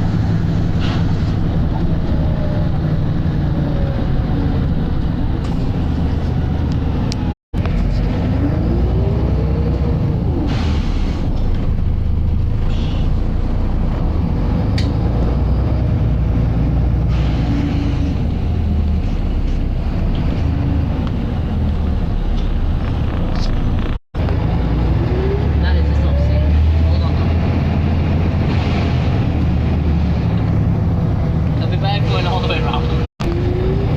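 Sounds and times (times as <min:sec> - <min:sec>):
bus engine thrashing: 0:00.0 - 0:33.9.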